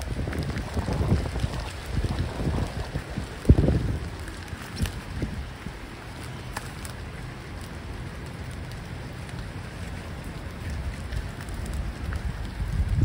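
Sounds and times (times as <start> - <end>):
rain drop ticks: 0.0 - 13.0
rain on water and leaves: 0.0 - 13.0.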